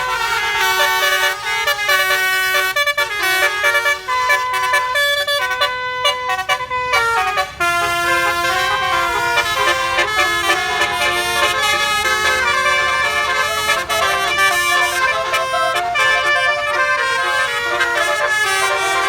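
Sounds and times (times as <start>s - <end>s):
bus horn playing a melody: 0.0s - 19.0s.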